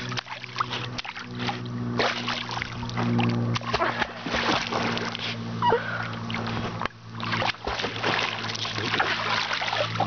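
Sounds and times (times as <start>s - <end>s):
low hum: 0.0s - 10.0s
water splashing and sloshing: 0.0s - 10.0s.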